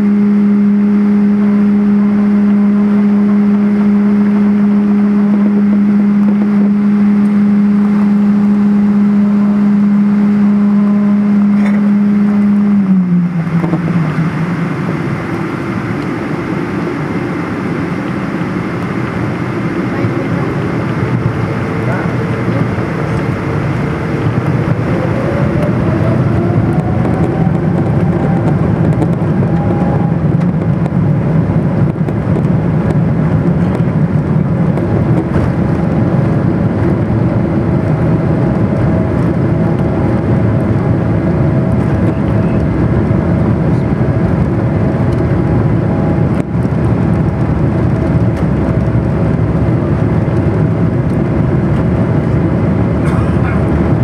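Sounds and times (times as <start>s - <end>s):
jet engines rumbling and whining: 0.0s - 54.0s.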